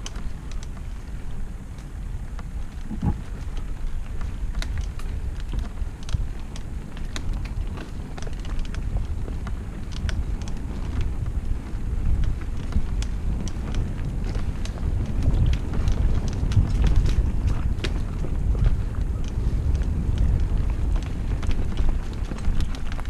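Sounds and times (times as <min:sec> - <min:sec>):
bike clicks and rattles: 0:00.0 - 0:23.0
bike tyre noise: 0:00.0 - 0:23.0
wind buffeting microphone: 0:00.0 - 0:23.0.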